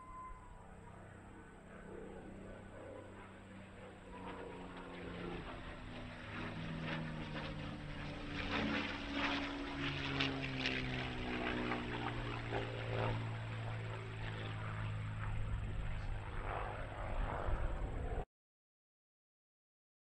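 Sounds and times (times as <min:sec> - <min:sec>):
propeller aircraft engine droning: 0:00.0 - 0:18.3.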